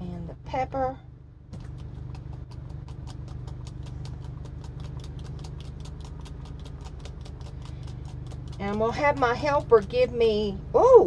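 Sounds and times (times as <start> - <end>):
generator humming: 0.0 - 11.0.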